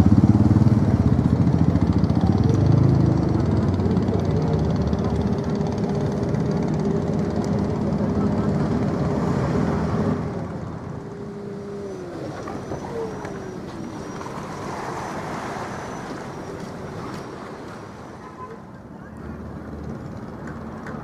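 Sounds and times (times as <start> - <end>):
distant engine rumble: 0.0 - 21.0
water: 0.0 - 21.0
wind: 0.0 - 21.0.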